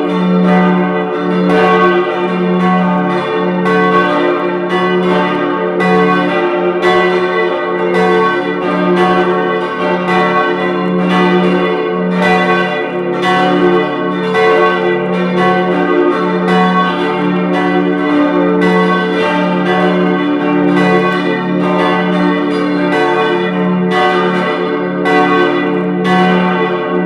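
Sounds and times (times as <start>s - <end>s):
church bells ringing: 0.0s - 27.0s.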